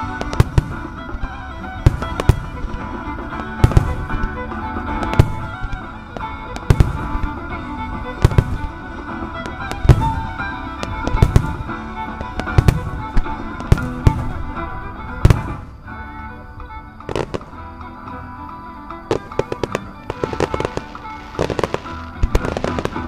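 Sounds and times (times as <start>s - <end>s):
firework shells bursting: 0.0s - 23.0s
music with long held notes: 0.0s - 23.0s.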